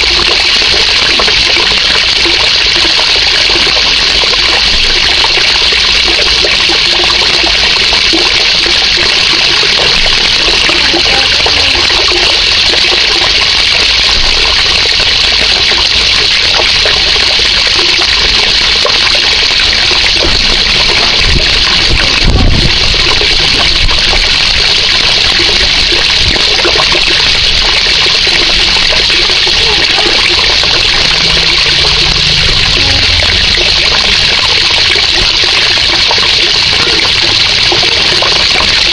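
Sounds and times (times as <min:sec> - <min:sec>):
water splashing into pond: 0:00.0 - 0:38.9.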